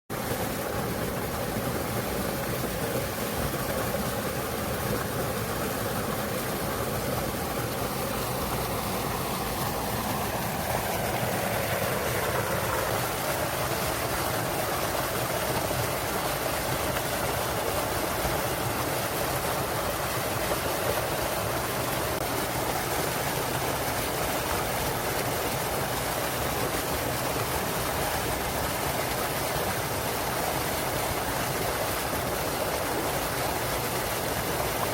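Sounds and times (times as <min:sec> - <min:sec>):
small waterfall rushing and splashing: 0:00.1 - 0:34.9.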